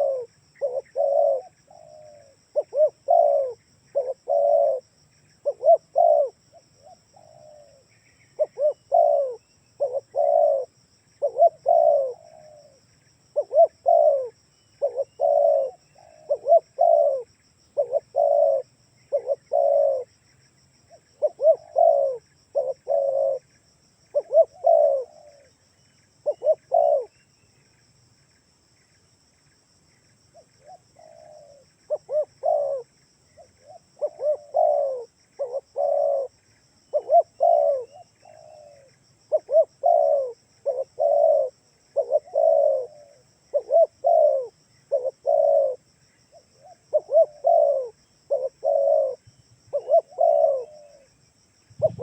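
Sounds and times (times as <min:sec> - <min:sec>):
dove cooing: 0:00.0 - 0:20.1, 0:20.9 - 0:23.5, 0:24.1 - 0:25.6, 0:26.2 - 0:27.2, 0:30.4 - 0:51.1, 0:51.7 - 0:52.0.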